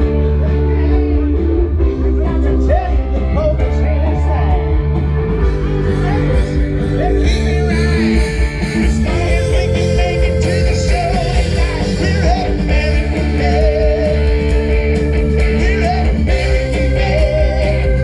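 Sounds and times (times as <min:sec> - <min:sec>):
lead vocal singing: 0:00.0 - 0:14.6, 0:15.3 - 0:18.0
rock band playing live: 0:00.0 - 0:18.0.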